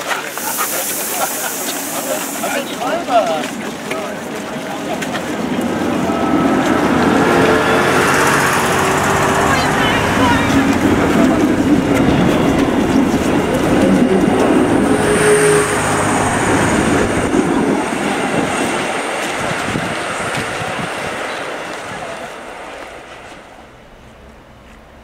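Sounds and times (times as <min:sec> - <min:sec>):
diesel train engine: 0:00.0 - 0:25.0
train wheels on rails: 0:00.0 - 0:25.0.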